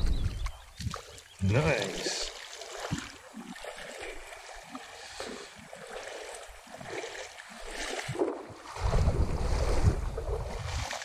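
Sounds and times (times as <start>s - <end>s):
shallow water lapping: 0.0s - 11.0s
soft water splashes: 0.0s - 11.0s.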